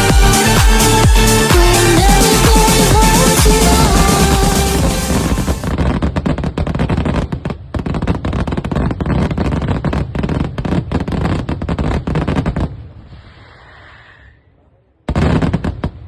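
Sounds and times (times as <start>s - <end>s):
fireworks bangs and crackles: 0.0s - 13.2s, 15.1s - 16.0s.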